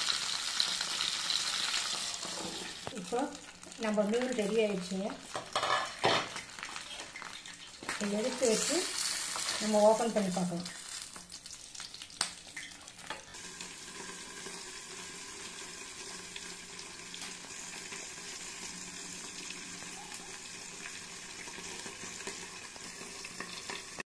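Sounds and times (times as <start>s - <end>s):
oil sizzling in frying pan: 0.0s - 24.0s.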